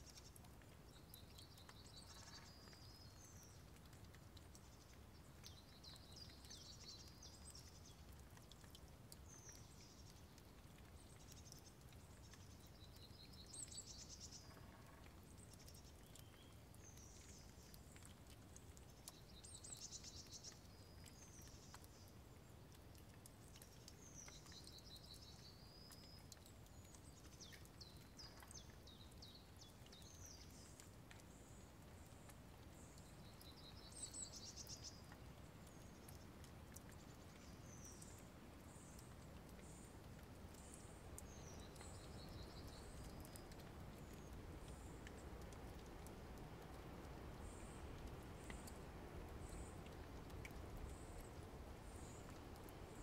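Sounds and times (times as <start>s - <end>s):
faint ticks: 0.0s - 53.0s.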